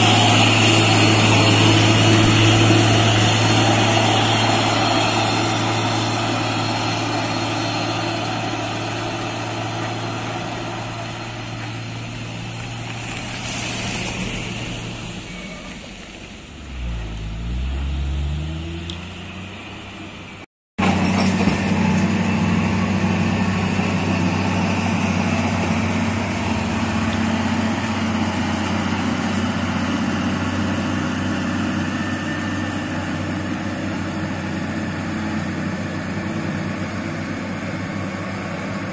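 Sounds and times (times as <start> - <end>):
diesel truck engines: 0.0 - 38.9.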